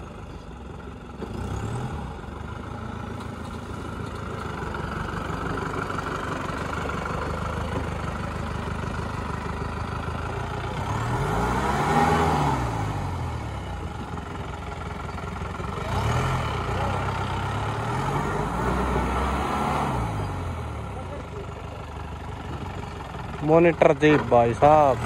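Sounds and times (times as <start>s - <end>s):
vehicle engine running and revving: 0.0s - 25.0s.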